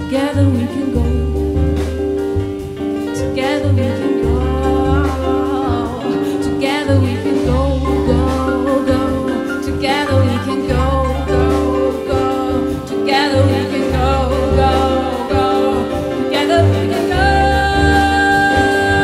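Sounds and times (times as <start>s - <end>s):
big band jazz: 0.0s - 19.0s
women singing in harmony: 3.3s - 19.0s.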